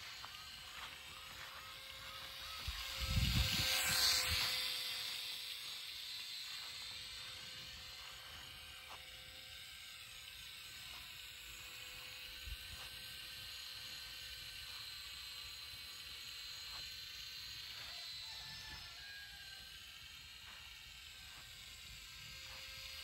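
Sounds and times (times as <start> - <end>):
model plane motor buzzing: 0.0 - 23.0.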